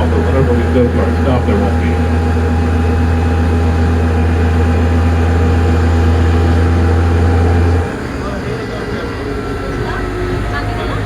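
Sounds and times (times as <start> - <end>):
faint steady tones: 0.0 - 11.0
tram low drone: 0.0 - 11.0.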